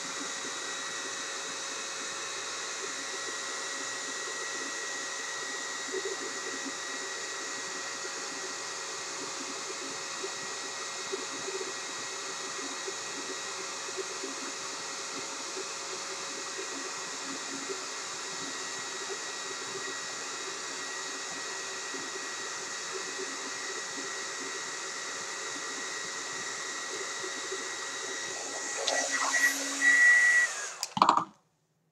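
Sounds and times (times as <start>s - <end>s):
hair dryer blowing: 0.0s - 31.2s.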